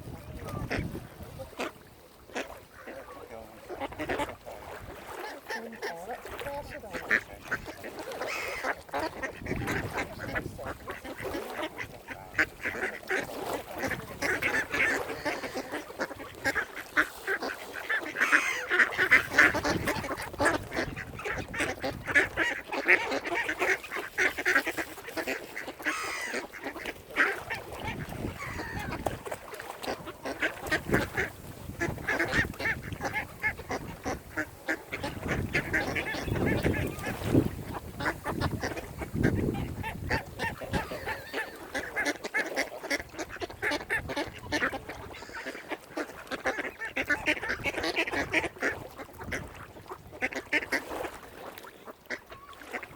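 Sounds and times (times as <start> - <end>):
waterfowl calling: 0.4 - 52.9.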